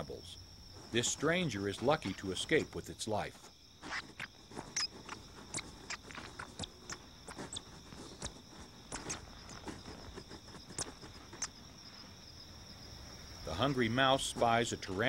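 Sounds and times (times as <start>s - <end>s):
crickets chirping: 0.0s - 15.0s
mice scurrying over dry dirt: 0.0s - 15.0s.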